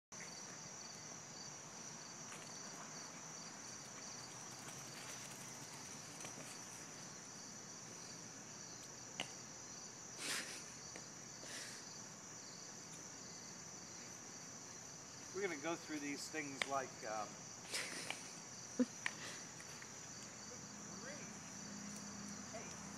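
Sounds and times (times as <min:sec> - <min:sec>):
crickets chirring: 0:00.2 - 0:22.9.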